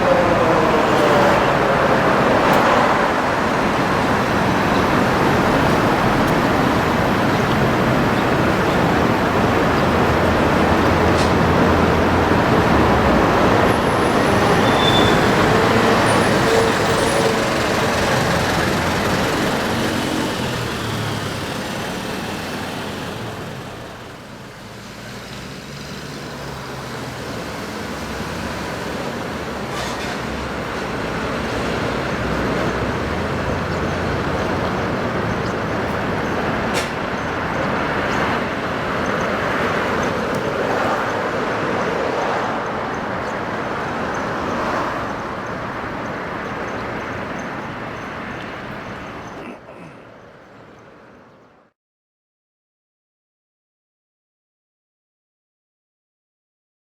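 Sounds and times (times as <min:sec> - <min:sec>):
vehicles passing on street: 0:00.0 - 0:51.8.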